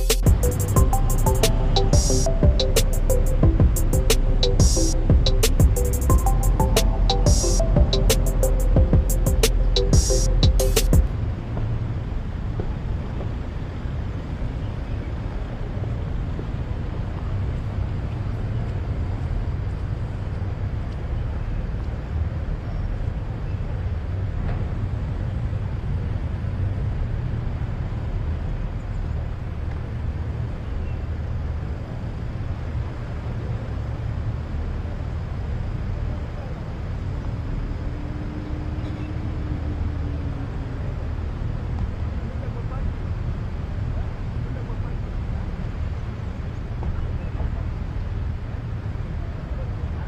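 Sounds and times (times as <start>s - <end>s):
car engines idling: 0.0s - 50.0s.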